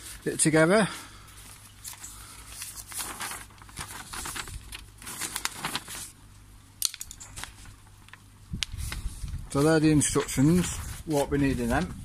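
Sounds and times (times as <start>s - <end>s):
packaging rustling and crinkling: 1.2s - 6.2s, 6.8s - 12.0s.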